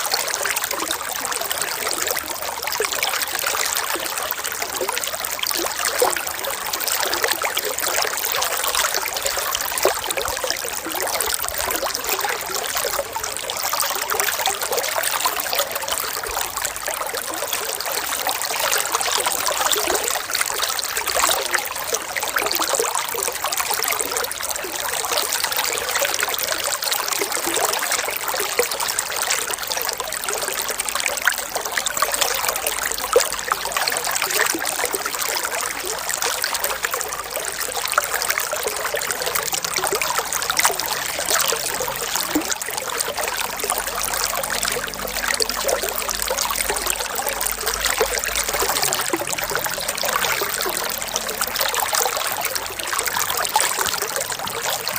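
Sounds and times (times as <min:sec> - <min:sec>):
stream babbling over stones: 0:00.0 - 0:54.9.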